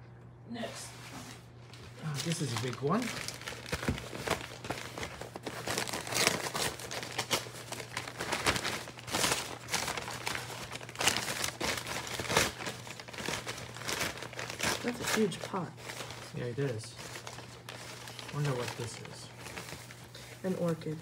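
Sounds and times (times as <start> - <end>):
packing paper crumpling: 1.6 - 21.0.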